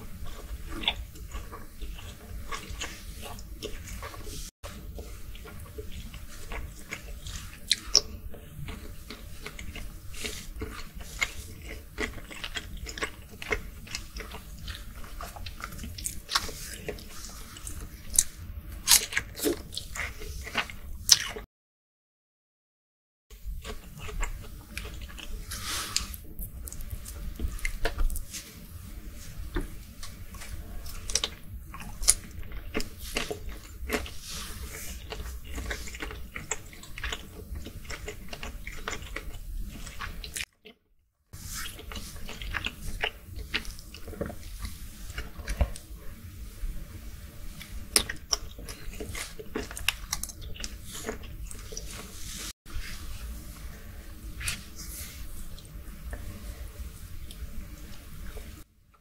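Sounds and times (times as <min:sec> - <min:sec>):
chewing shrimp with wet mouth sounds: 0:00.0 - 0:21.4, 0:23.4 - 0:40.8, 0:41.4 - 0:58.7.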